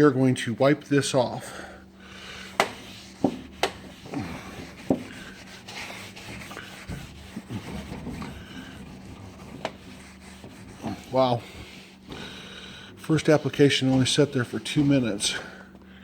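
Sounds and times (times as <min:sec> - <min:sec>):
cloth rag wiping metal door: 0:02.2 - 0:15.6.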